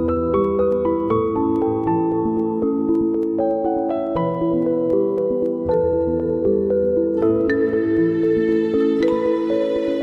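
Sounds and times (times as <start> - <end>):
gentle ambient music: 0.0 - 10.0.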